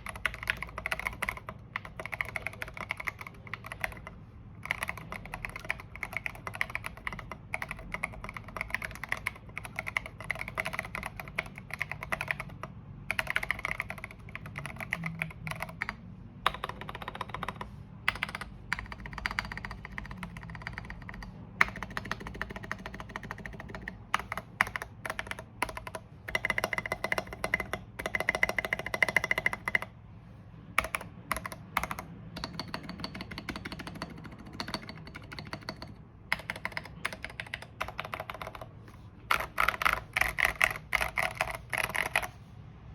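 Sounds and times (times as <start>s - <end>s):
mechanical keyboard typing: 0.0s - 30.0s, 30.7s - 42.4s.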